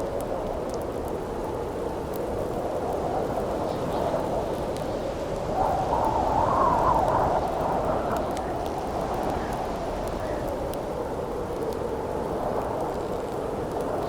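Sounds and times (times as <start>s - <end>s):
campfire crackling: 0.0s - 14.0s
howling wind: 0.0s - 14.0s.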